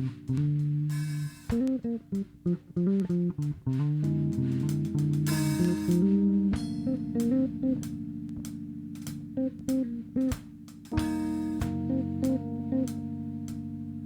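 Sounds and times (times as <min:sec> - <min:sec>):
instrumental band music: 0:00.0 - 0:13.8.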